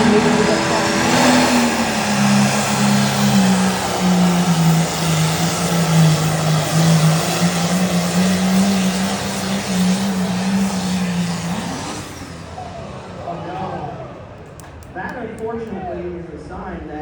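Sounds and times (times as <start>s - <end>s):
tractor diesel engine running flat out: 0.0s - 14.9s.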